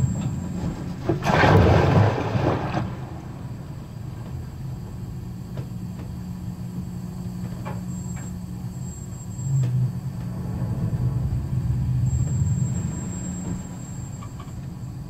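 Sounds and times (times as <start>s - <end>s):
low sea rumble: 0.0s - 15.0s.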